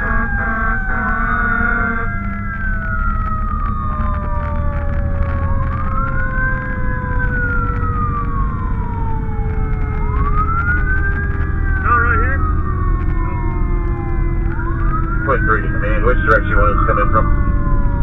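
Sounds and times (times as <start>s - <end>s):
fire truck siren wailing: 0.0s - 18.0s
truck engine rumble: 0.0s - 18.0s.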